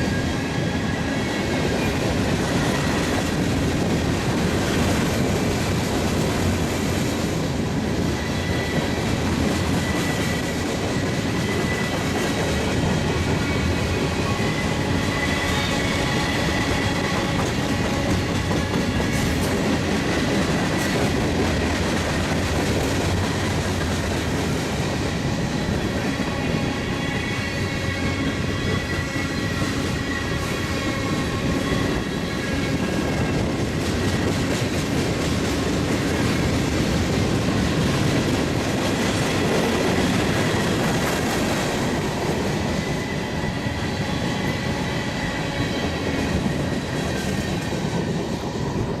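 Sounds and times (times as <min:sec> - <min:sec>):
train wheels clattering on rails: 0:00.0 - 0:49.0.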